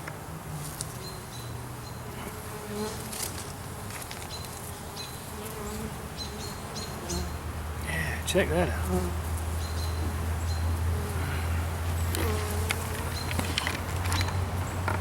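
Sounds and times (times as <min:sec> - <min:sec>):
bee swarm buzzing: 0:00.2 - 0:14.8.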